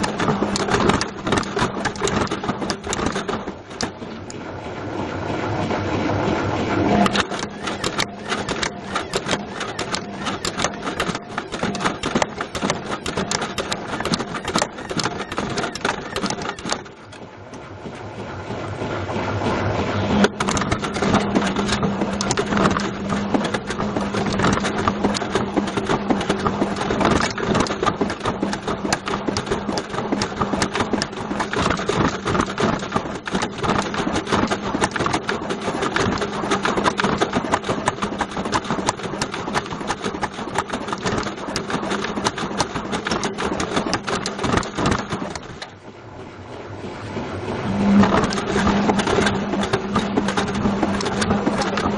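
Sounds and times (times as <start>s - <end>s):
motor hum: 0.0s - 51.9s.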